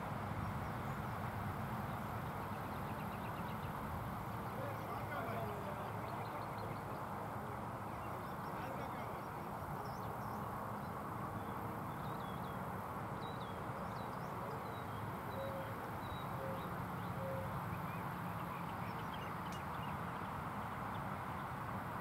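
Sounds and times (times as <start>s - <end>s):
outdoor background noise: 0.0s - 22.0s
distant bird calls: 0.4s - 21.5s.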